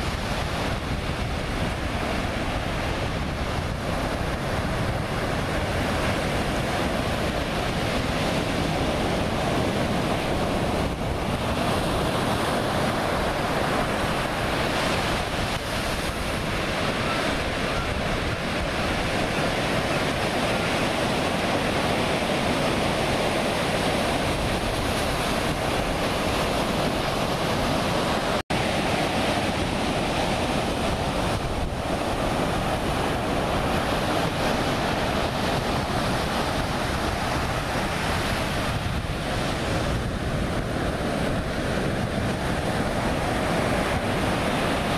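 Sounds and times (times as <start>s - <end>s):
ocean surf breaking: 0.0s - 44.9s
wind buffeting microphone: 0.0s - 44.9s.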